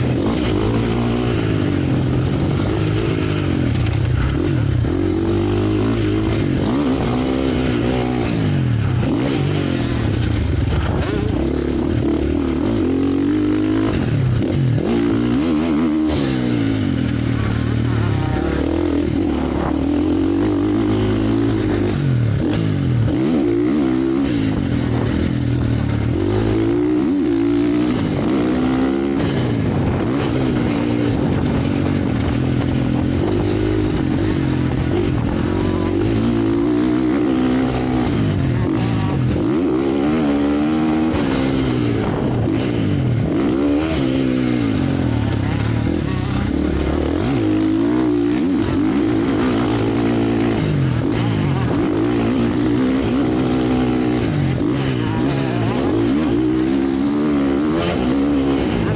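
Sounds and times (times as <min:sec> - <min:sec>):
motorcycle engines revving: 0:00.0 - 0:58.9.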